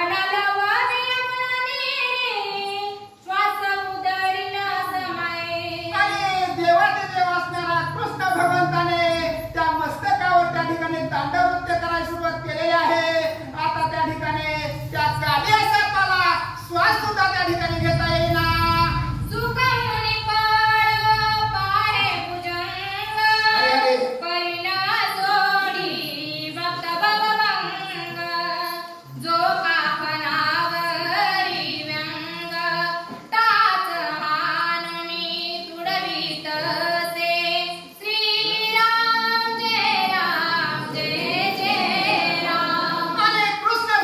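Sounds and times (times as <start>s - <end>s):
woman singing devotional verse: 0.0s - 44.0s.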